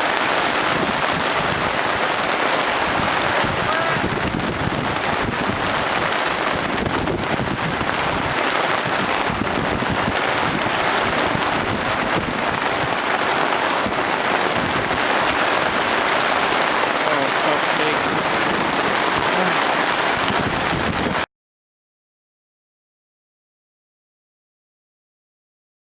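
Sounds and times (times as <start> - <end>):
wind buffeting microphone: 0.0 - 21.2
heavy rain hissing: 0.0 - 21.3.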